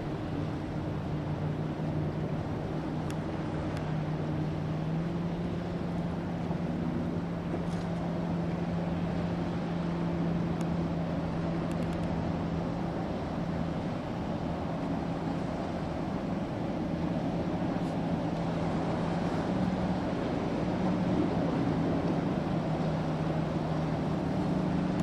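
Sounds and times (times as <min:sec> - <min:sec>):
boat engine droning: 0:00.0 - 0:25.0
rush of wind and water: 0:00.0 - 0:25.0.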